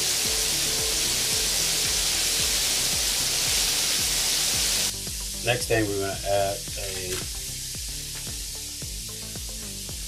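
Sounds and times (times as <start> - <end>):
background music with steady beat: 0.0 - 10.0
chicken deep-frying in oil: 0.0 - 10.0.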